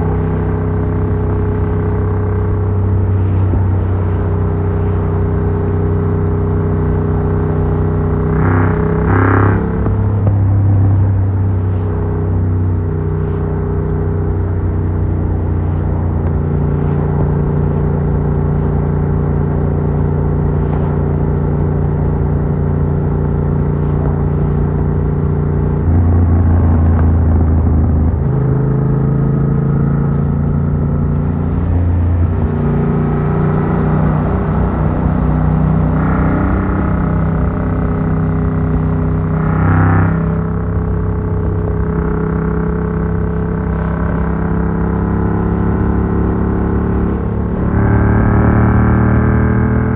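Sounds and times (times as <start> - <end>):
motorcycle engine while riding: 0.0 - 49.9.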